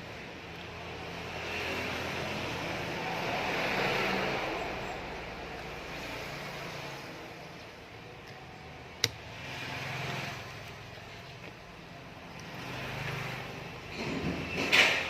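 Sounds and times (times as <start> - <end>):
road vehicle passing by: 0.7 - 15.0.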